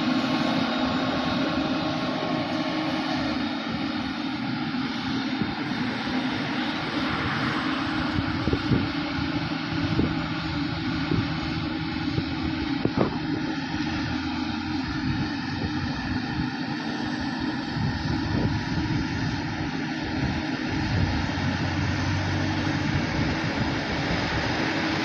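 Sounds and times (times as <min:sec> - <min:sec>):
diesel farm machinery running: 0:00.0 - 0:25.0.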